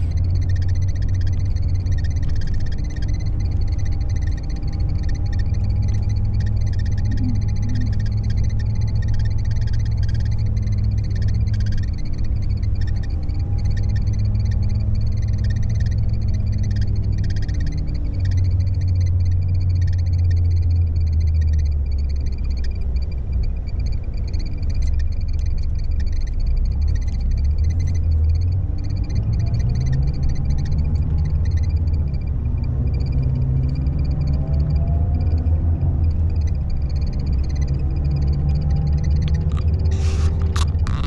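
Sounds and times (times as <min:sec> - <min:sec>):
diesel engine hum: 0:00.0 - 0:41.0
frogs calling: 0:00.0 - 0:41.0.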